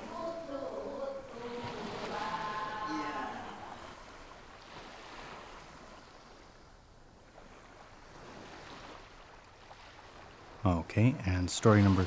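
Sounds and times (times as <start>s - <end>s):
waves washing on a beach: 0.0s - 12.0s.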